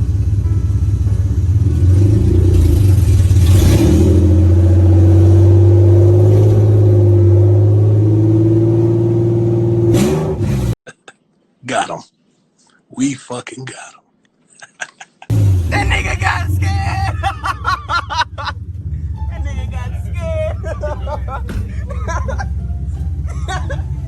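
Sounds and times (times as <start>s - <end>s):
car engine revving steadily: 0.0s - 10.8s, 15.3s - 24.0s.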